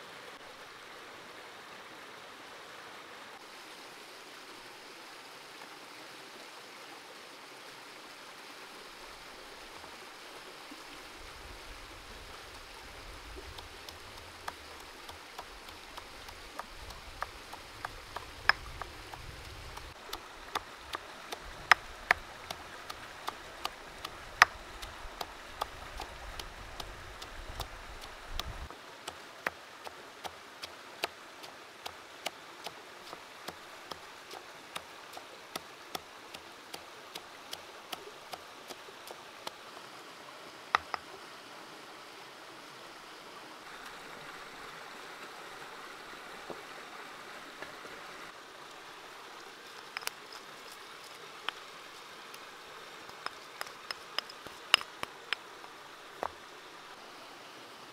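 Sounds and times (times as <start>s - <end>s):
flowing stream water: 0.0s - 57.9s.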